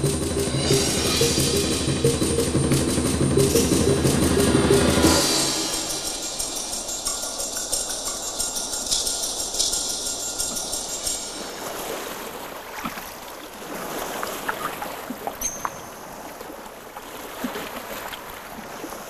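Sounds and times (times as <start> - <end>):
water splashing and lapping: 2.8 - 19.0.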